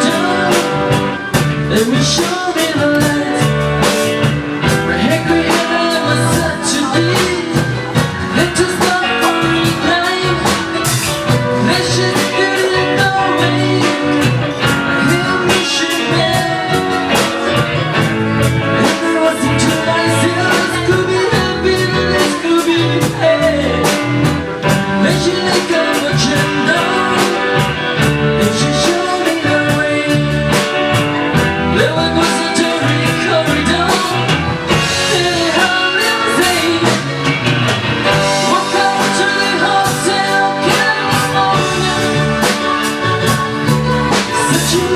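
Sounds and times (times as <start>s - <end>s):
drums: 0.0s - 44.9s
guitar: 0.0s - 44.9s
person singing: 0.0s - 44.9s.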